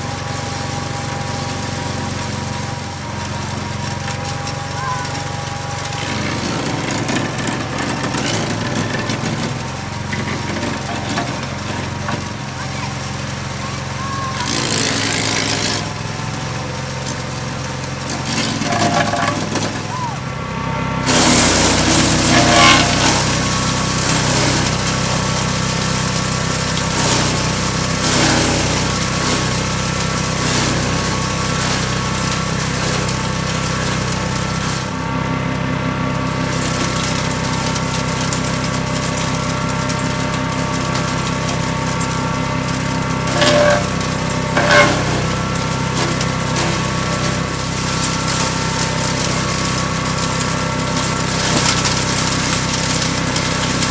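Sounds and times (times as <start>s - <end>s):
branches crunching in chipper: 0.0s - 53.9s
wood chipper running: 0.0s - 53.9s.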